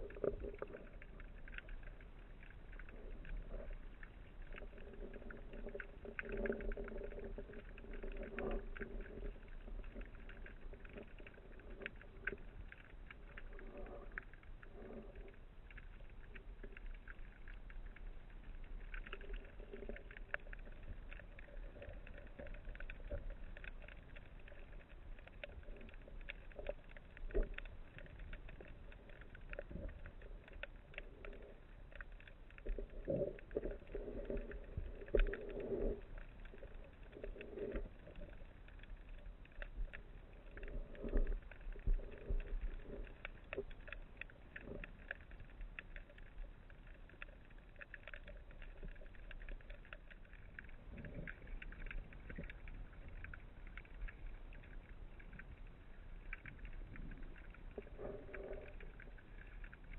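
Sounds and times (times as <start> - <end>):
underwater crackle of clicks: 0.0 - 59.9.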